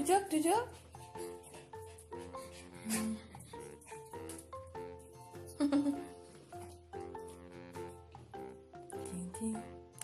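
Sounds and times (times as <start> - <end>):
music with held notes: 0.0 - 10.0.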